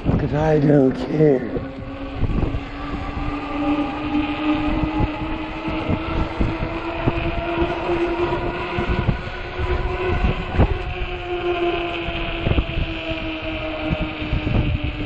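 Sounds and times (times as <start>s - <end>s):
electric motor whining: 0.0s - 15.0s
rumble of tyres: 0.0s - 15.0s
wind buffeting microphone: 0.0s - 15.0s.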